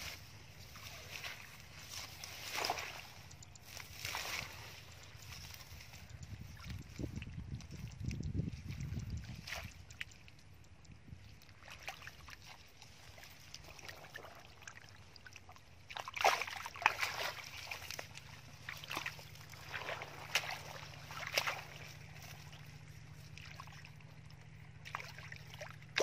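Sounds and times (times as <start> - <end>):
hands splashing in muddy water: 0.0 - 10.4, 11.5 - 24.0
steady low hum: 0.0 - 26.0.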